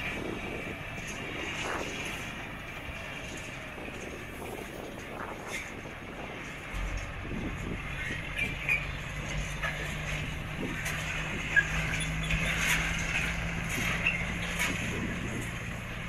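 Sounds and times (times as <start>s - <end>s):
diesel truck engine droning: 0.0s - 16.0s.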